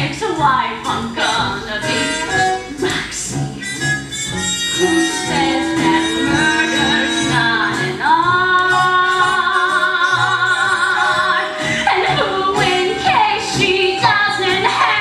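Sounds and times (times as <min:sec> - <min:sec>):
woman singing show tune: 0:00.0 - 0:03.4, 0:04.8 - 0:15.0.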